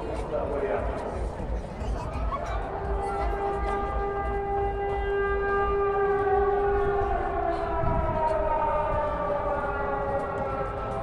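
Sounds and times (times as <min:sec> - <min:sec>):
air-raid sirens wailing: 0:00.0 - 0:11.0.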